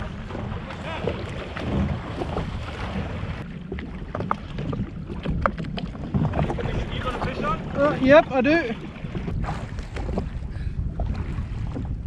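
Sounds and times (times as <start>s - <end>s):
short ticks and splashes: 0.0s - 10.4s
sea water lapping against jet ski: 0.0s - 12.0s
wind rumbling on microphone: 0.0s - 12.0s.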